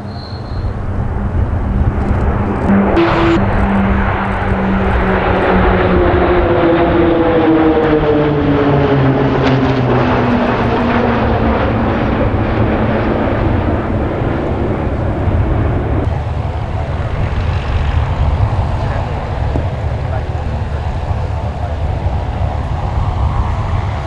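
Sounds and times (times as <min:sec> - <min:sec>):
continuous rumble: 0:00.0 - 0:24.0
propeller planes droning overhead: 0:00.0 - 0:24.0.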